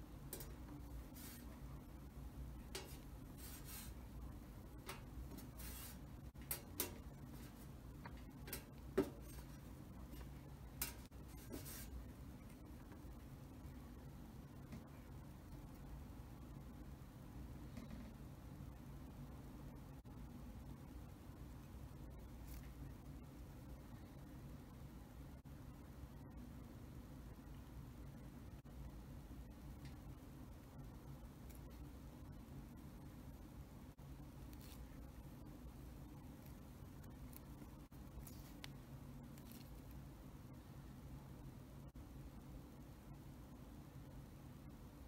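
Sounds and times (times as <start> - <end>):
faint high hiss: 0.0 - 45.0.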